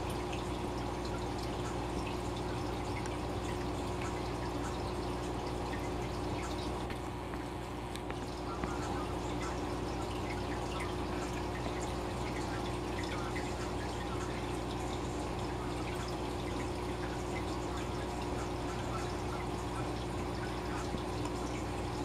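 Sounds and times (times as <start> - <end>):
fish tank water bubbling: 0.0 - 22.0
steady low hum: 0.0 - 22.0
water drips and splashes: 0.0 - 22.0.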